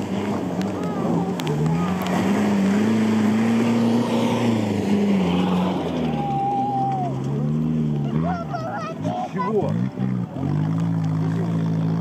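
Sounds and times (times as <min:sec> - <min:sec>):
truck engine under load: 0:00.0 - 0:12.0.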